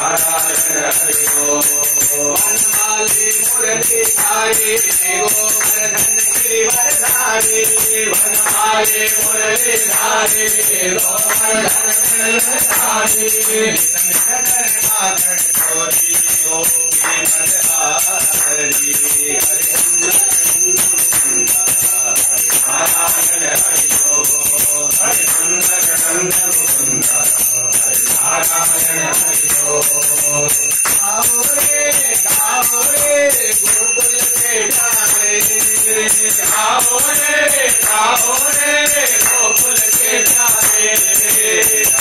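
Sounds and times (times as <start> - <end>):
bell ringing rapidly: 0.0 - 42.0
devotional singing: 0.0 - 42.0.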